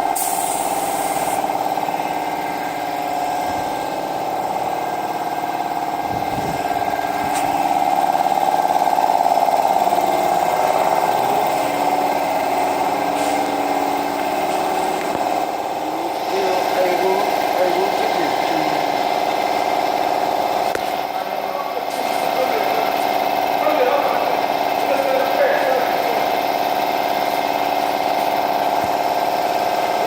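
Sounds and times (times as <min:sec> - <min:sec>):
motor-driven machine humming: 0:00.0 - 0:30.0.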